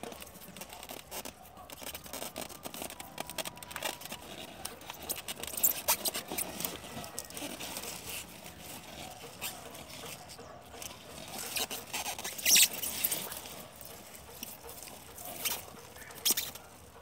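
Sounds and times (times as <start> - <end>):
hand scraping soil: 0.0 - 17.0
leaves rustling and crackling: 0.0 - 17.0.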